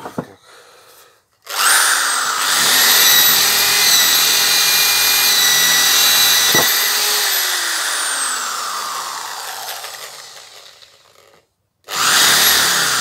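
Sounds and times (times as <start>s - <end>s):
electric drill boring into wood: 1.4s - 13.0s.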